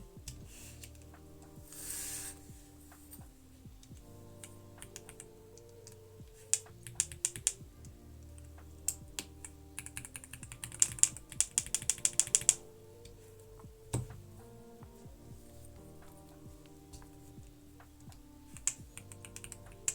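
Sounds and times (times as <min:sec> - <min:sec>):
background music: 0:00.0 - 0:19.9.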